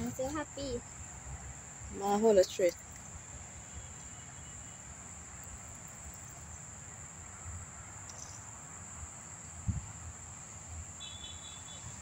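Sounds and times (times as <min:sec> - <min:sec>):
faint outdoor background: 0:00.0 - 0:12.0
shrill insect chorus: 0:00.0 - 0:12.0.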